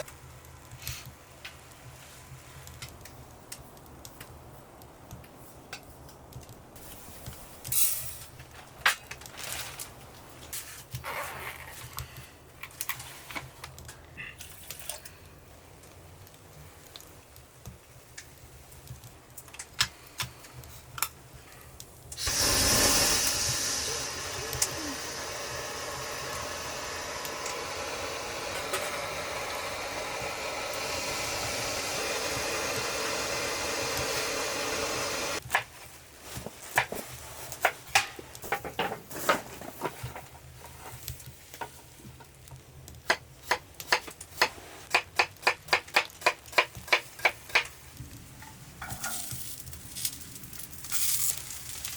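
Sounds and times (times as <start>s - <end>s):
cooking hiss: 0.0s - 6.1s, 6.8s - 39.3s, 40.1s - 51.9s.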